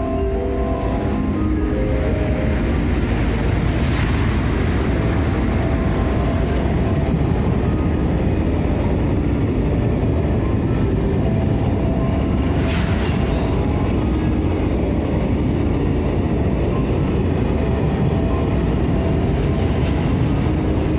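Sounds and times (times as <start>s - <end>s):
train wheels rumbling on rails: 0.0s - 20.9s.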